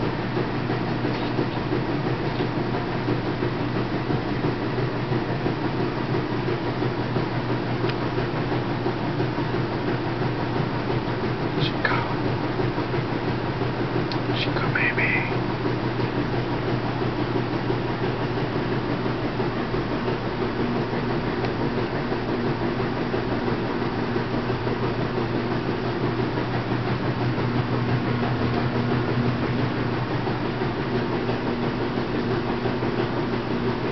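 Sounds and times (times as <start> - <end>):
low mechanical hum with hiss: 0.0 - 33.9.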